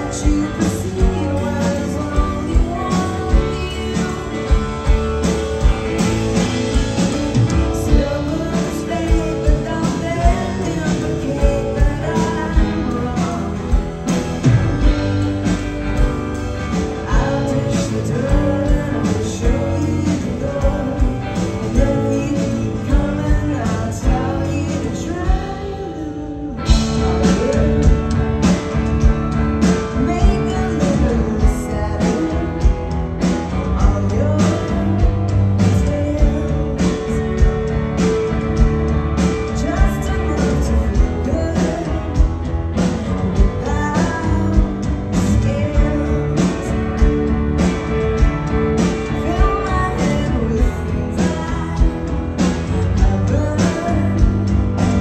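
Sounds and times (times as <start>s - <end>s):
woman singing: 0.0s - 5.7s, 7.6s - 15.0s, 16.9s - 28.3s, 29.0s - 37.8s, 39.2s - 47.4s, 48.2s - 55.0s
bass: 0.0s - 55.0s
drums: 0.0s - 55.0s
electric guitar: 0.0s - 55.0s.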